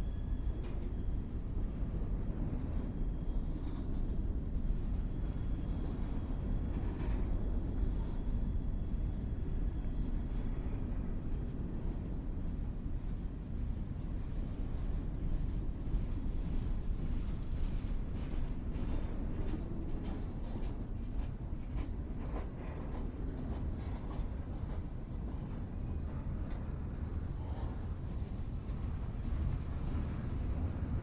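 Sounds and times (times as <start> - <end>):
train rumbling by: 0.0 - 31.0.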